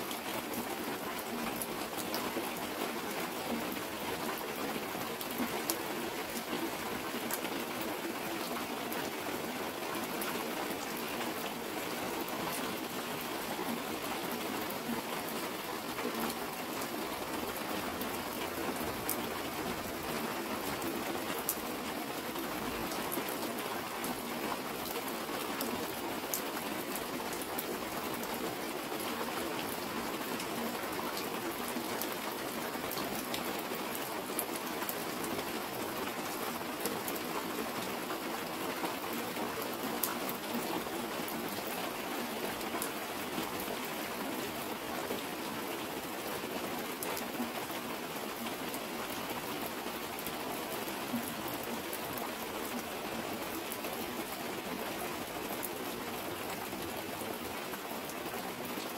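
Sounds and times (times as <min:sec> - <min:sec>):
rain on plastic sheet: 0:00.0 - 0:58.9.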